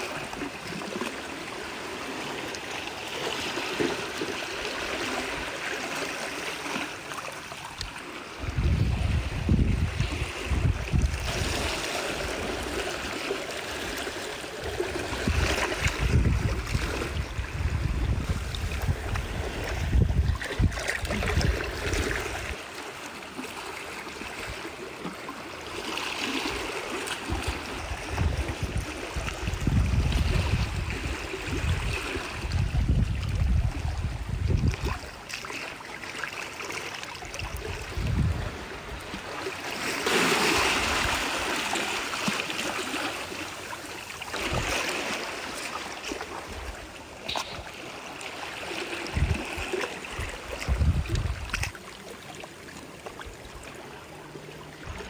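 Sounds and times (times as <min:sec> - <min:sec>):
seawater trickling and lapping: 0:00.0 - 0:55.0.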